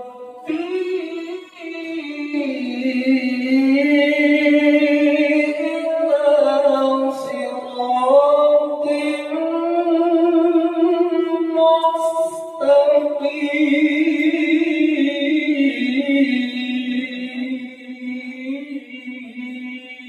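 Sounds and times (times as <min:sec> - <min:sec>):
man reciting melodically: 0:00.0 - 0:20.0.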